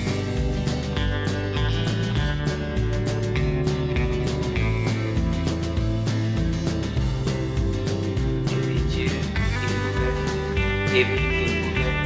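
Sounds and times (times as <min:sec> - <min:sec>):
background music with strummed guitar: 0:00.0 - 0:12.0.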